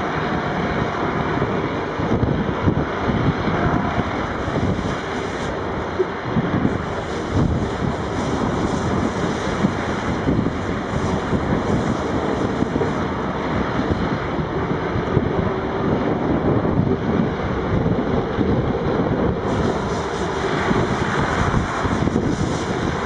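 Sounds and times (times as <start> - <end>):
wheel loader diesel engines: 0.0 - 23.0.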